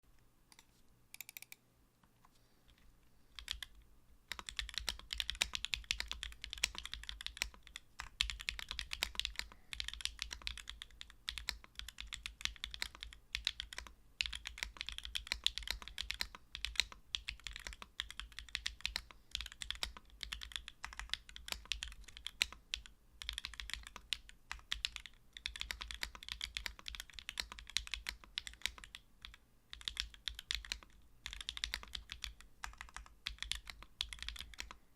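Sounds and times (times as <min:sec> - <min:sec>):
mechanical keyboard typing: 0:03.4 - 0:34.8.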